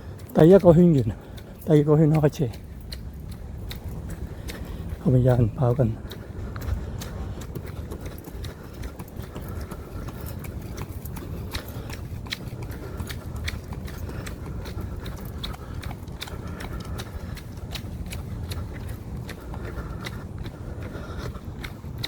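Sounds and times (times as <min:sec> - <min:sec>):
jogging footsteps: 0:00.0 - 0:22.0.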